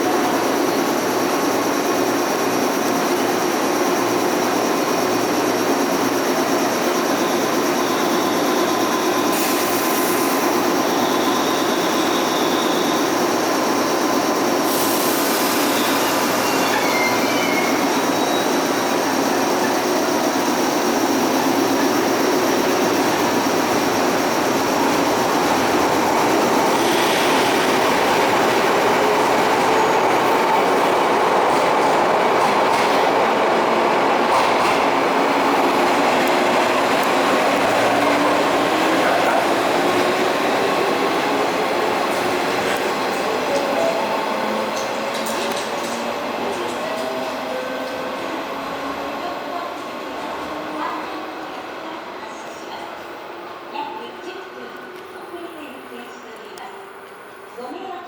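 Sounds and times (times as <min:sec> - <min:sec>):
electric train running noise: 0:00.0 - 0:53.7.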